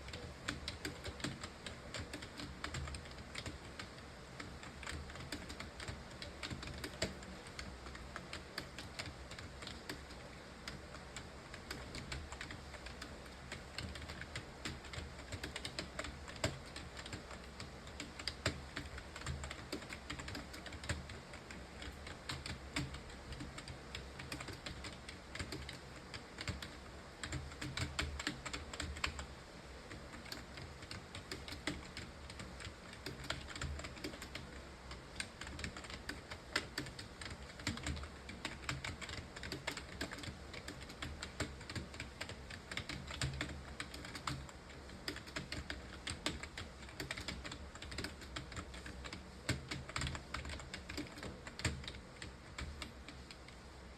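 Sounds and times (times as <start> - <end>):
fast keyboard typing: 0.0 - 53.7.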